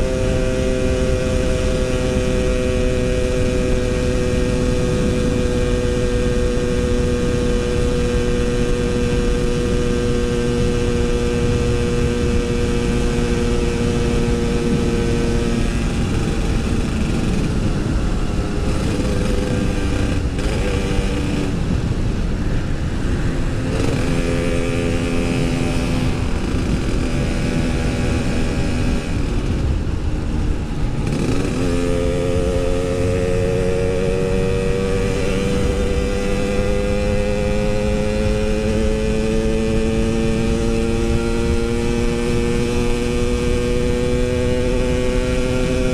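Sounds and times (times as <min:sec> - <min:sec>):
two-stroke motorcycle engine: 0:00.0 - 0:45.9.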